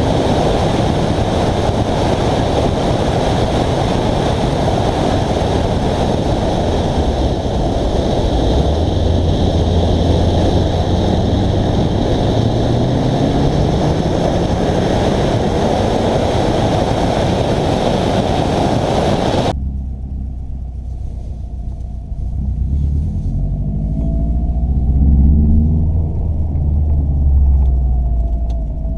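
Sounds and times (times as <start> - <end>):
car engine accelerating: 0.0 - 28.9
heavy wind buffeting microphone: 0.0 - 28.9
low rumble: 0.0 - 28.9.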